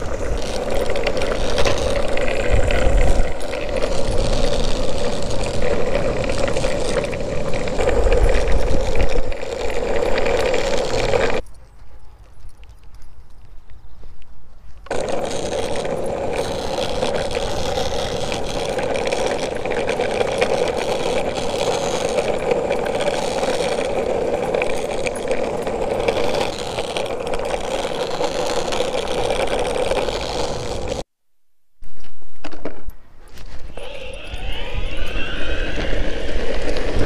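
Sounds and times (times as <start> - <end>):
skateboard wheels rumbling: 0.0 - 11.4, 14.7 - 31.1, 32.2 - 37.0.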